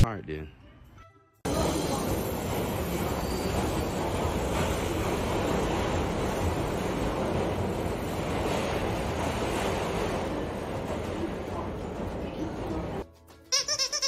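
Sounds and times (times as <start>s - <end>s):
subway car running: 1.5s - 13.1s.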